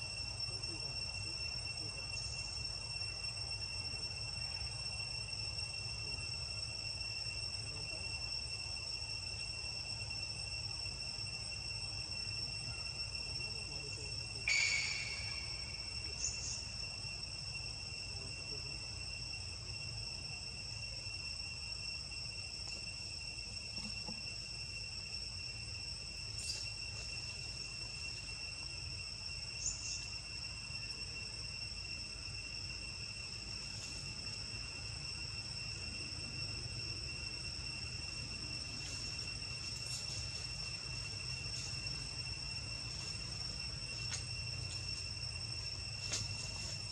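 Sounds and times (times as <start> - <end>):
high-pitched insect drone: 0.0 - 46.9.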